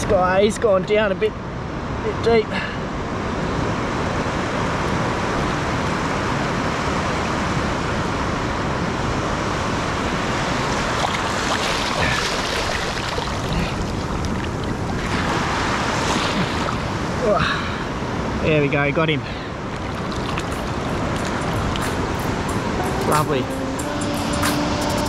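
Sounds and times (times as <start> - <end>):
shallow surf washing: 1.5 - 23.5.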